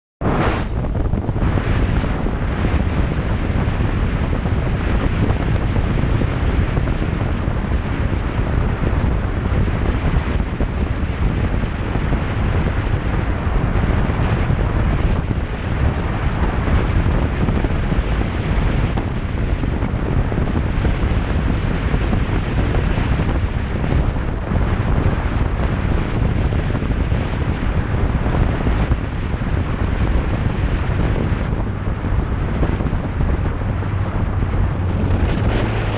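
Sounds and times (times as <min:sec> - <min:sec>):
wind buffeting microphone: 0:00.2 - 0:35.9.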